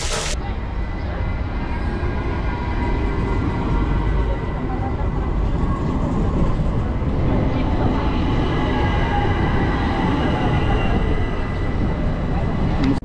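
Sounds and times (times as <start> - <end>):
tram wheels rumbling: 0.0 - 13.0.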